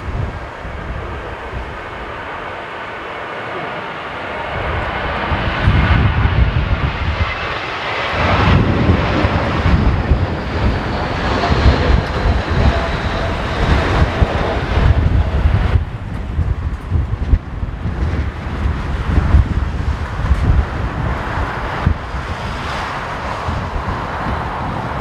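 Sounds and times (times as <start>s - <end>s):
wind buffeting microphone: 0.0s - 3.0s, 3.6s - 25.0s
jet engines whining: 0.0s - 25.0s.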